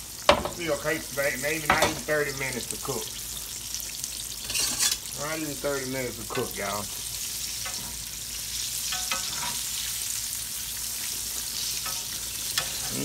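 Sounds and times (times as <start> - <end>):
steak sizzling in hot oil: 0.0 - 13.0.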